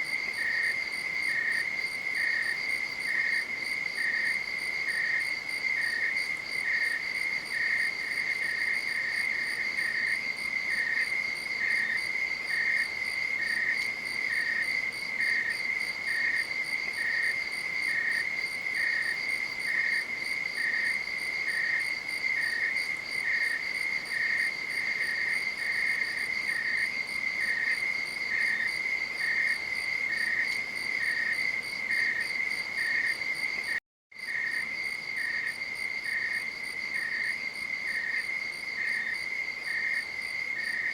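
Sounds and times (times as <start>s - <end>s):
lower insect chirp: 0.0s - 40.9s.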